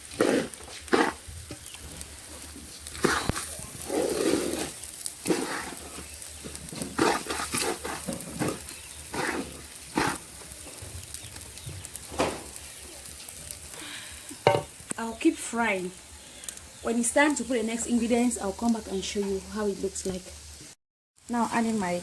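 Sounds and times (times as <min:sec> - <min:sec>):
rice sizzling: 0:00.0 - 0:22.0.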